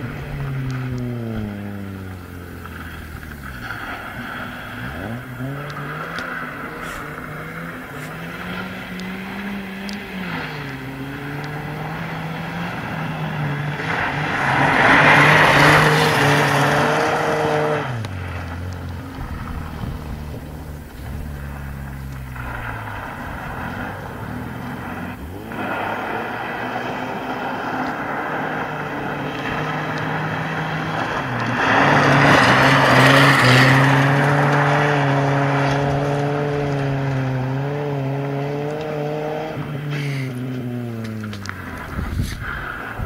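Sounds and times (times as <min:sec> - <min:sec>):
car engine approaching: 0:00.0 - 0:43.0
gravel and tyre noise: 0:00.0 - 0:43.0
rally car engine revving: 0:00.0 - 0:43.0.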